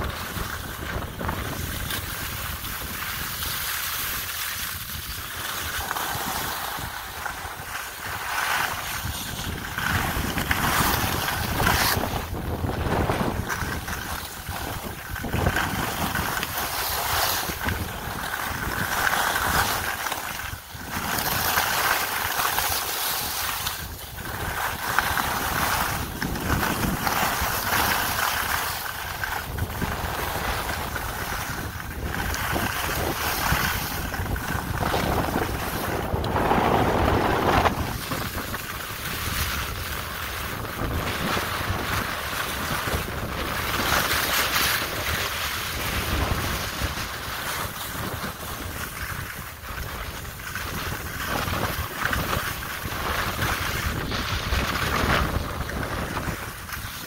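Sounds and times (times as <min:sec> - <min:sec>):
skis carving across snow: 0:00.0 - 0:57.0
wind rushing over microphone: 0:00.0 - 0:57.0.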